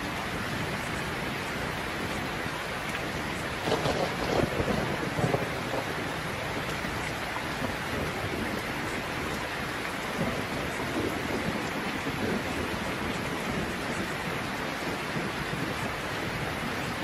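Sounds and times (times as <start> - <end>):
low rumbles like thunder: 0.0 - 17.0
steady rain: 0.0 - 17.0.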